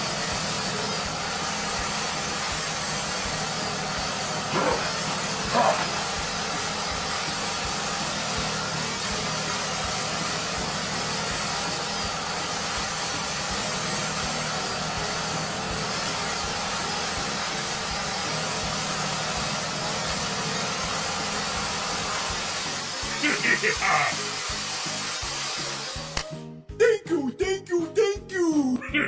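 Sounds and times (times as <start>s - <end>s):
small motor running: 0.0s - 26.1s.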